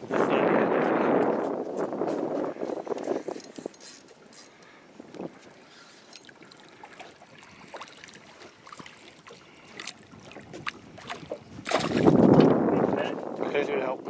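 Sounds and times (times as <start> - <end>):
water lapping against boat hull: 1.2 - 14.0.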